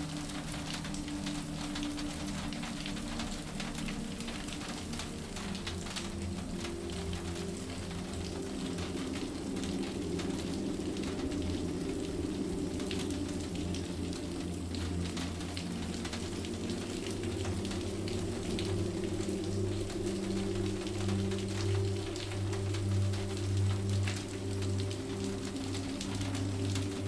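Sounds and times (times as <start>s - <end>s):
low steady drone: 0.0s - 27.0s
steady rain hissing: 0.0s - 27.0s.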